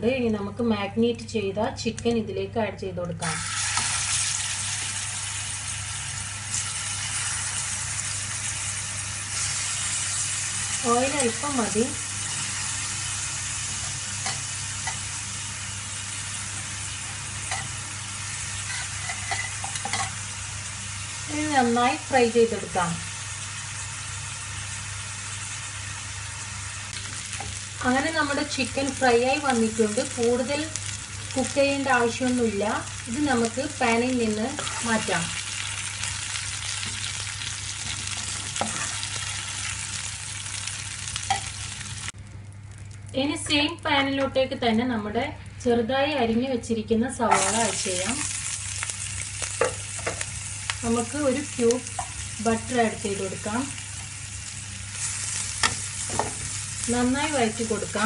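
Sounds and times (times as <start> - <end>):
chicken sizzling in frying pan: 3.2 - 43.1, 47.3 - 58.0.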